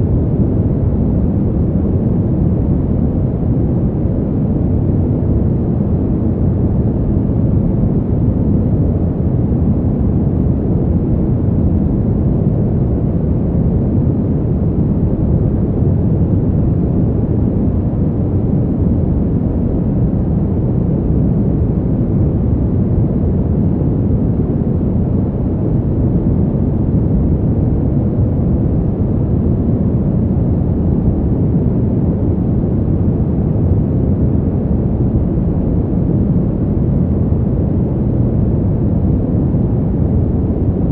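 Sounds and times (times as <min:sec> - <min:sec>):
deep steady wind noise: 0:00.0 - 0:40.9.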